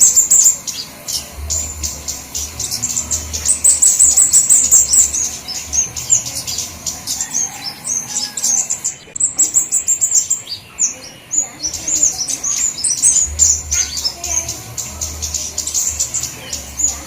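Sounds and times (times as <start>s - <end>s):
birds chirping high and thin: 0.0s - 17.0s.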